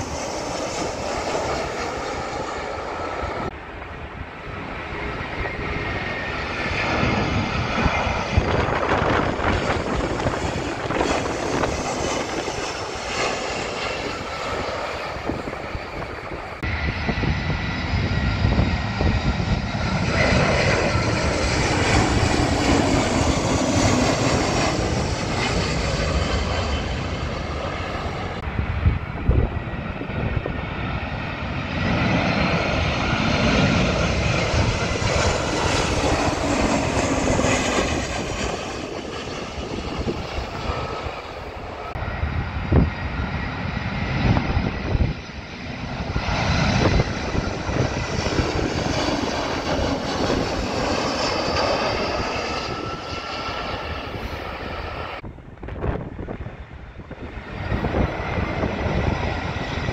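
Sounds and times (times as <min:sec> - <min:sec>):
jet airliner passing low: 0:00.0 - 0:59.9.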